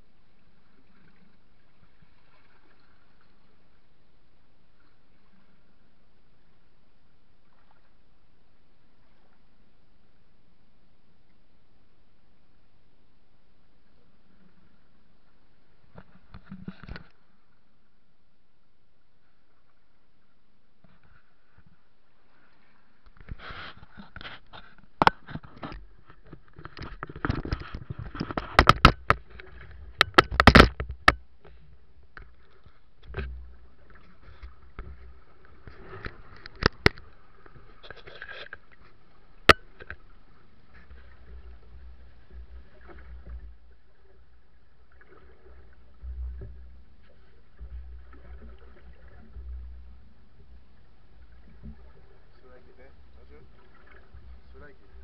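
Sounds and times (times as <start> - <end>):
water sloshing against boat hull: 0.1 - 9.7, 18.8 - 55.0.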